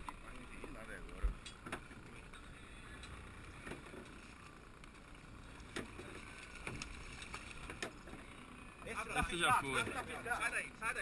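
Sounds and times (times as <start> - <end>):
wind and water rumble: 0.0 - 11.0.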